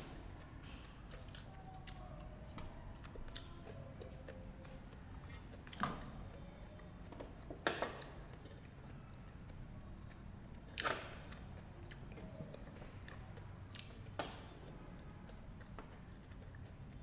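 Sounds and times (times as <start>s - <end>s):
person chewing fruit: 0.0s - 17.0s.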